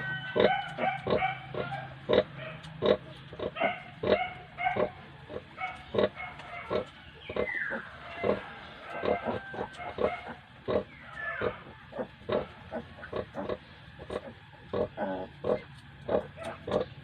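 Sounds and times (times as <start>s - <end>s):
piglets squealing: 0.0s - 16.9s
pig grunting: 0.0s - 17.0s.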